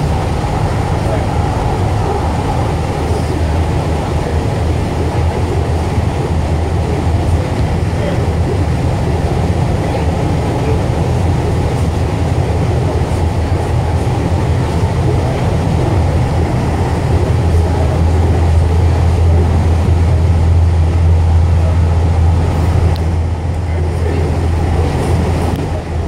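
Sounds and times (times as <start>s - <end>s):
light rail car rumble and hum: 0.0s - 26.0s.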